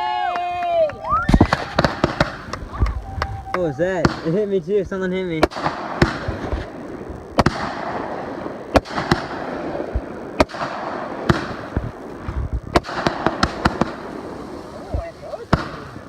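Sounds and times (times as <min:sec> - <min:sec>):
crackling hiss: 0:00.0 - 0:16.0
fireworks bangs: 0:00.0 - 0:16.0.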